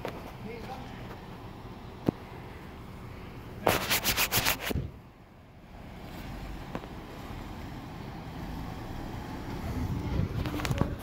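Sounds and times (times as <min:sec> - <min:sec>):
cars moving off rumble: 0:00.0 - 0:03.8, 0:04.6 - 0:11.0.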